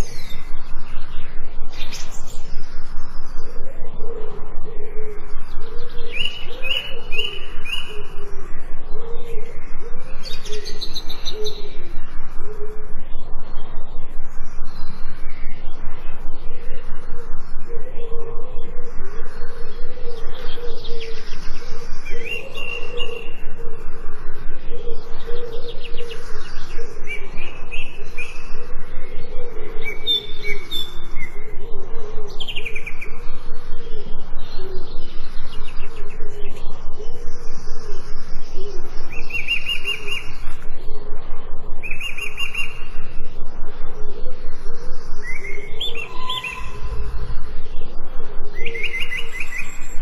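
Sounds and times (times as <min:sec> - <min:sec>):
songbirds chirping and trilling: 0:00.0 - 0:50.0
steady fast pulsing sound: 0:00.0 - 0:50.0.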